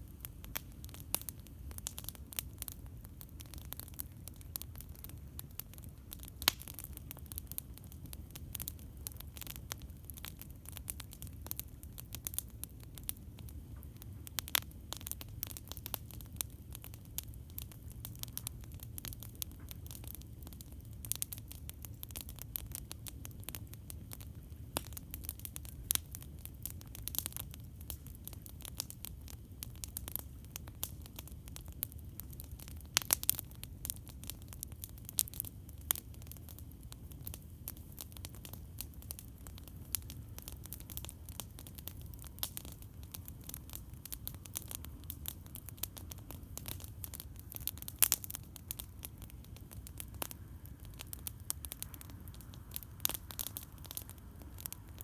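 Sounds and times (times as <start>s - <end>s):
campfire crackling: 0.0s - 55.0s
burning wood popping: 0.1s - 55.0s.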